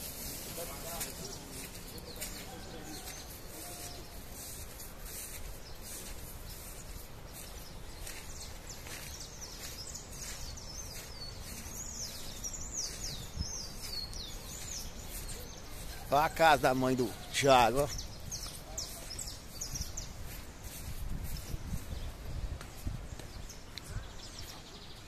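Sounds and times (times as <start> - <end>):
birds chirping: 0.0 - 25.0
outdoor background hiss: 0.0 - 25.0.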